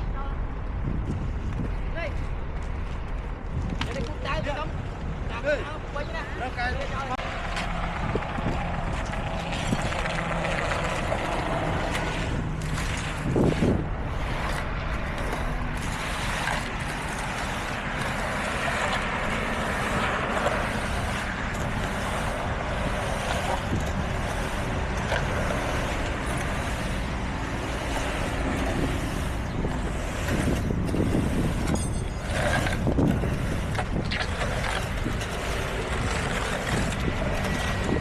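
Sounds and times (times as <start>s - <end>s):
construction machinery engines: 4.7s - 38.0s.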